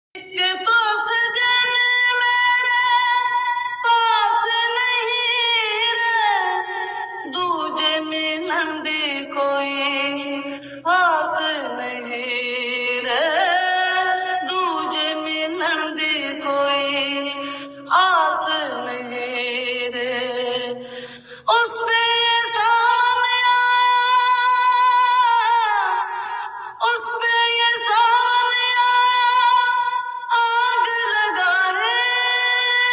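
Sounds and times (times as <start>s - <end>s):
woman singing without words: 0.2s - 32.9s.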